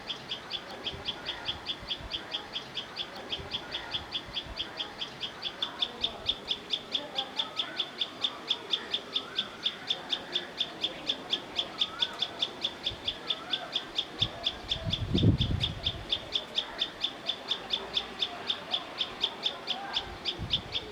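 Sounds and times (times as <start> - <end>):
birds whistled calls: 0.0 - 20.9.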